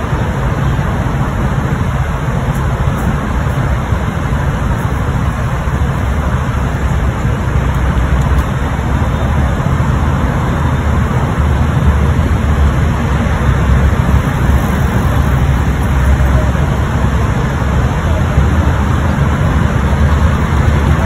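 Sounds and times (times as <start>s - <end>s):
idling engines rumble: 0.0s - 21.0s
traffic hiss: 0.0s - 21.0s.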